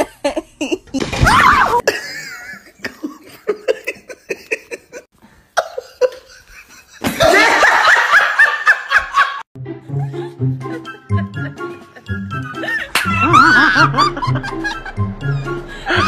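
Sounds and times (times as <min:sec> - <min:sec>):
person laughing: 0:00.0 - 0:01.2, 0:01.8 - 0:16.0.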